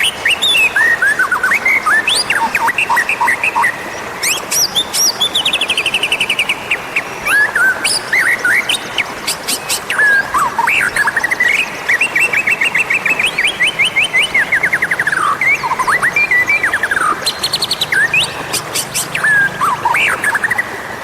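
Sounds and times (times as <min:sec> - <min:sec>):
bird singing varied song: 0:00.0 - 0:20.8.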